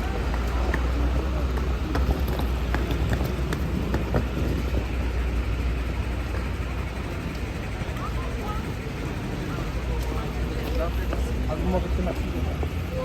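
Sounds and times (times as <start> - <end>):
passing vehicles rumble: 0.0 - 13.0.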